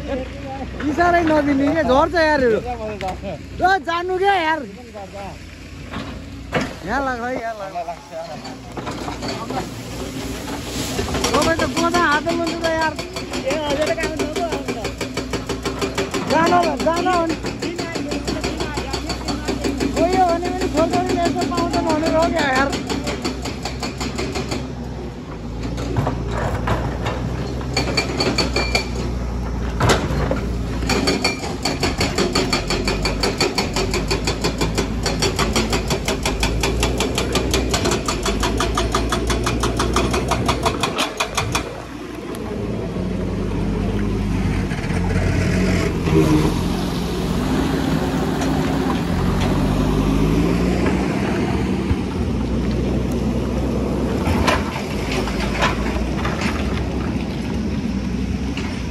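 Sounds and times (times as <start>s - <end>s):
excavator diesel engine: 0.0s - 58.9s.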